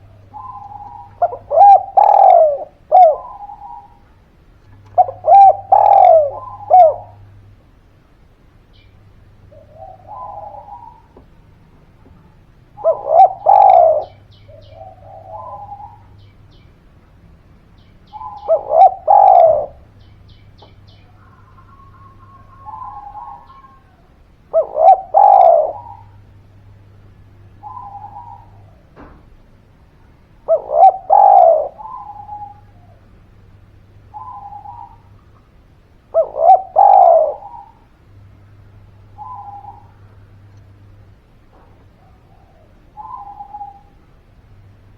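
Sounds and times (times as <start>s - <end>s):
dove cooing: 0.0s - 7.6s, 8.8s - 16.6s, 18.1s - 44.7s.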